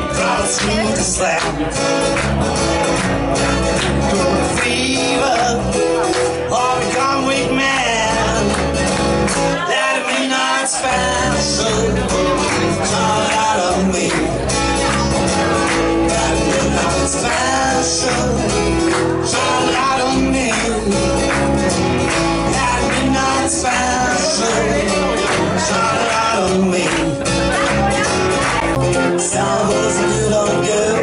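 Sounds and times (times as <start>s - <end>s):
acoustic guitar: 0.0s - 31.0s
electric bass guitar: 0.0s - 31.0s
man singing: 0.0s - 31.0s.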